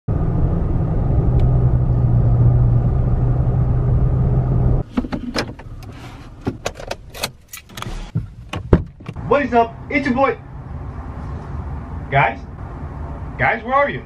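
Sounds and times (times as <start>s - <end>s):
car driving drone inside cabin: 0.1s - 14.0s.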